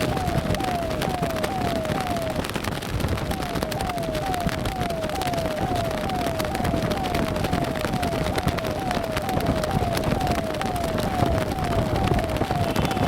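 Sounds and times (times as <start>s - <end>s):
police siren yelping: 0.0s - 13.0s
sharp crackling: 0.0s - 13.0s.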